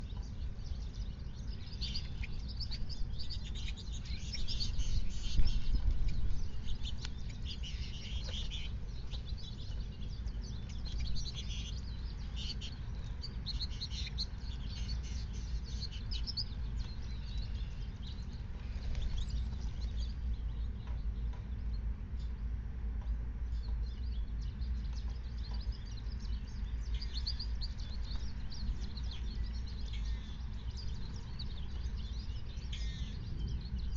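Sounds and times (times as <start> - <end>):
steady low rumble: 0.0 - 33.9
wild birds chirping: 0.0 - 33.9.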